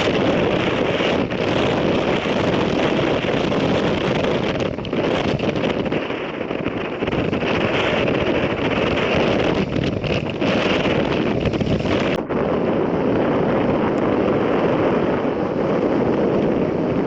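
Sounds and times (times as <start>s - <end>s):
strong wind gusting on microphone: 0.0s - 17.0s.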